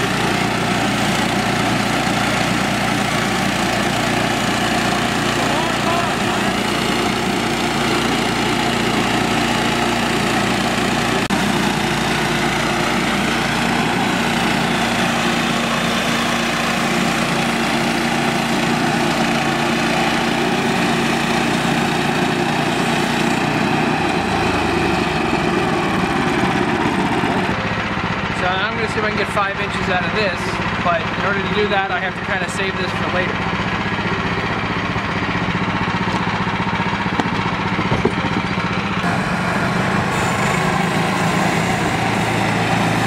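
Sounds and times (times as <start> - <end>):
gas engine running under load: 0.0 - 43.0.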